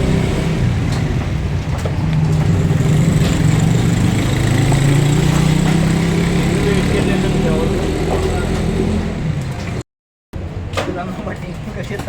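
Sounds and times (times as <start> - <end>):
engine hum: 0.0 - 9.8.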